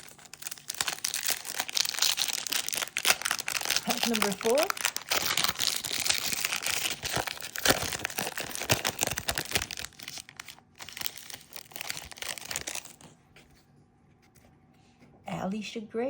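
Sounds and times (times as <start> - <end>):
foil pack tearing and crinkling: 0.0 - 13.1.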